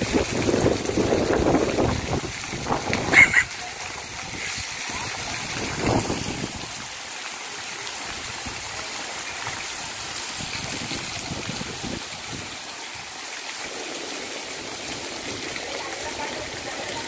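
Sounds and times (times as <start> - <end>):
heavy rain on wet street: 0.0 - 17.0.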